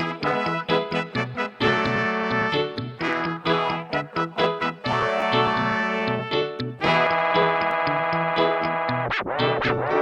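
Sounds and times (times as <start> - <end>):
dub reggae music: 0.0 - 10.0
horn section phrases: 0.0 - 10.0.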